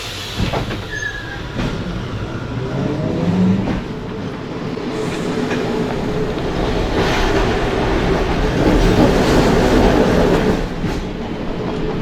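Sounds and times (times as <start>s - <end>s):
tram motors and wheels rumbling: 0.0s - 12.0s.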